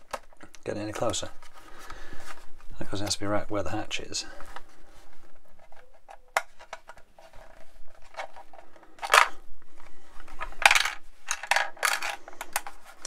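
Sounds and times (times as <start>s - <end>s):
hard plastic clicking and rubbing: 0.0s - 3.2s, 4.4s - 13.0s
plastic scraping: 0.0s - 13.0s.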